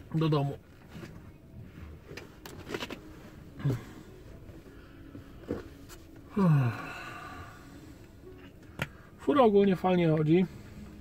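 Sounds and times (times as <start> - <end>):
van cab hum: 0.0 - 11.0.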